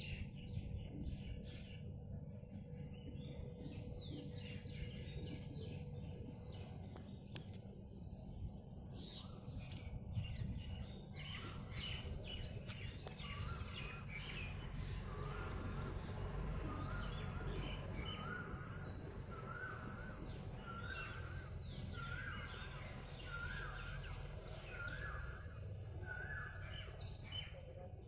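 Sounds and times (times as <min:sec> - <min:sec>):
birds chirping: 0:00.0 - 0:28.0
low background rumble: 0:00.0 - 0:28.0.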